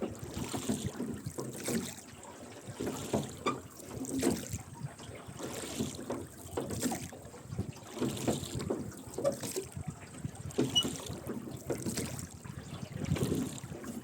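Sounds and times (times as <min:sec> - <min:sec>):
oars splashing in water: 0:00.0 - 0:14.0.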